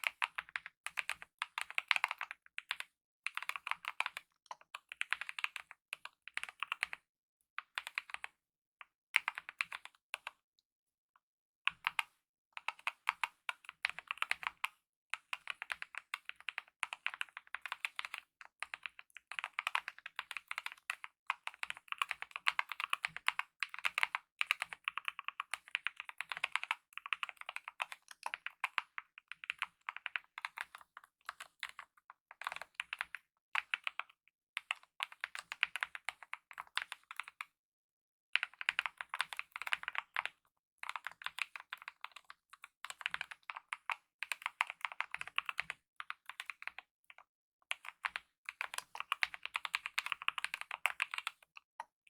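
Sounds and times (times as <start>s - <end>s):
typing on mechanical keyboard: 0.0s - 7.0s, 7.7s - 8.4s, 9.2s - 10.4s, 11.7s - 37.5s, 38.4s - 51.9s.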